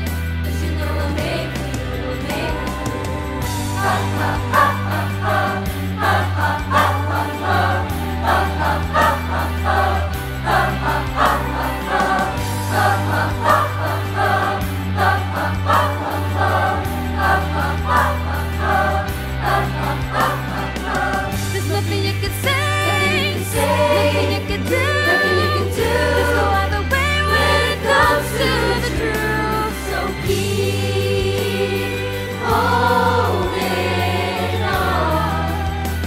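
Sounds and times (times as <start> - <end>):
choir singing a pop ballad: 0.0 - 36.0
sustained bass notes: 0.0 - 36.0.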